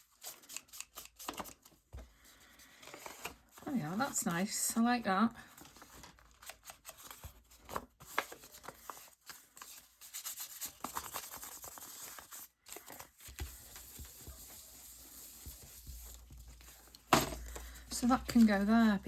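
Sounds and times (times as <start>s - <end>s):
paper rustling and shuffling: 0.3s - 4.8s, 5.4s - 19.0s.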